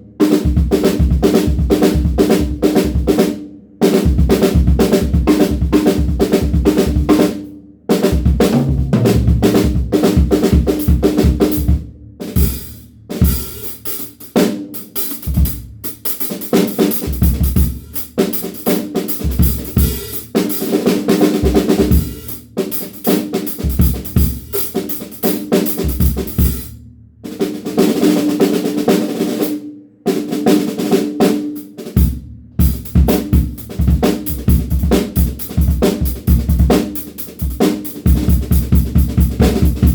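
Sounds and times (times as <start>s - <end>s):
drum kit grooves and fills: 0.0s - 39.9s.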